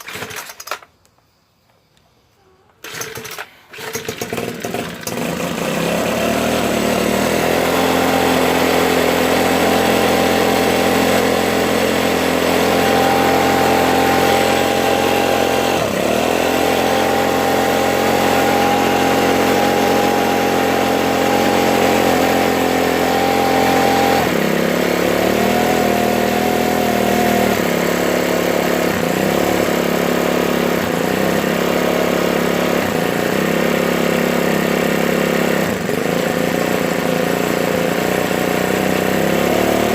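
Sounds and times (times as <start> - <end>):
leaf blower engine running: 2.8 - 39.9.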